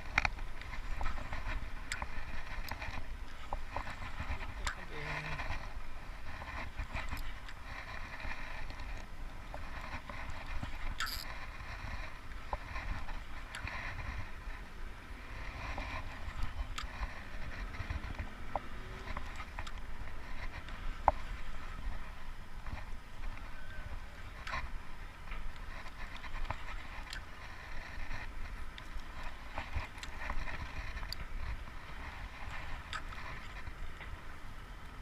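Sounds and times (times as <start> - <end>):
light clicks and ticks: 0.0 - 14.6, 15.3 - 21.4, 24.3 - 34.2.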